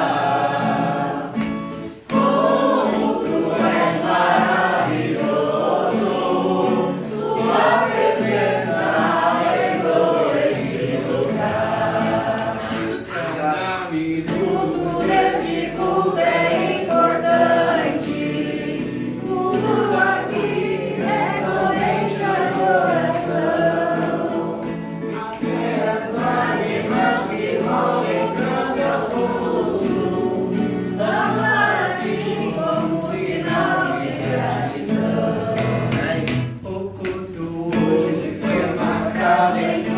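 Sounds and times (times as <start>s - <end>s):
group singing worship song: 0.0s - 39.9s
guitar playing: 0.0s - 39.9s.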